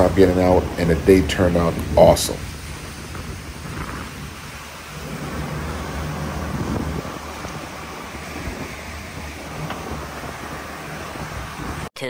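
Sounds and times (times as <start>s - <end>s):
boat engine drone: 0.0s - 11.9s
rush of boat wake: 0.0s - 11.9s
wind buffeting microphone: 0.0s - 11.9s.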